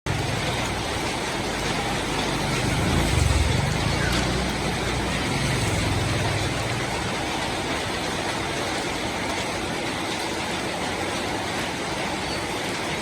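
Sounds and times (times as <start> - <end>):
steady rain hiss: 0.1 - 13.0.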